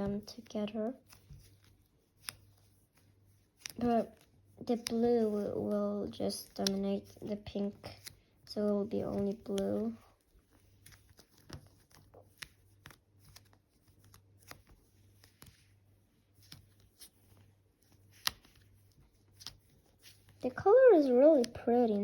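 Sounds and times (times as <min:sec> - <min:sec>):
hands kneading slime: 0:00.0 - 0:22.0.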